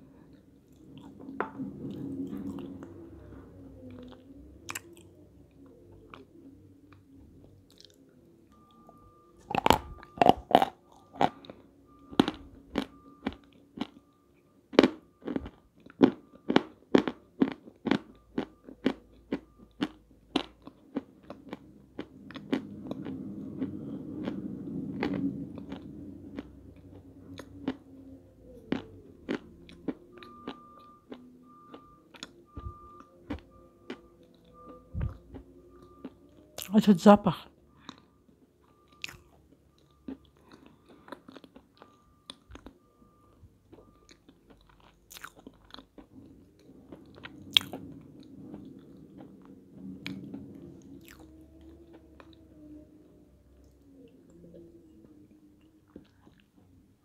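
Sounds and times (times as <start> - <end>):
crunchy clay being chewed: 3.8 - 36.8, 37.7 - 56.8.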